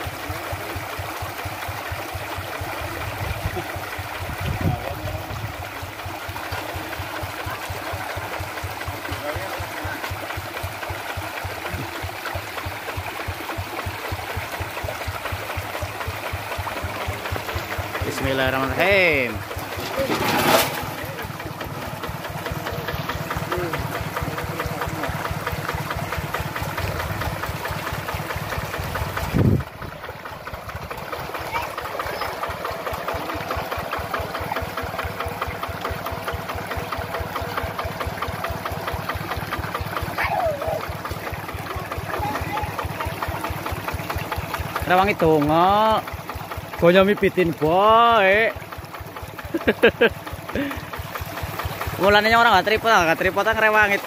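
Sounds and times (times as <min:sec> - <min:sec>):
diesel engine idling: 0:00.0 - 0:54.0
stream running over rocks: 0:00.0 - 0:54.0.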